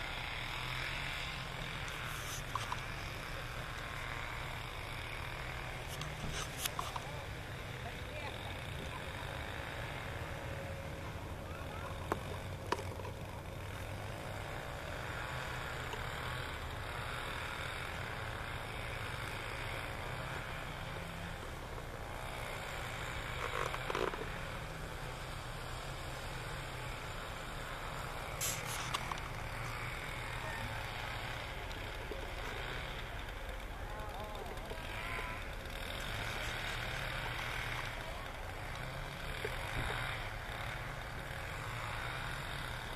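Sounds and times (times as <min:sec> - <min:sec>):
outdoor background rumble and hiss: 0:00.0 - 0:42.9.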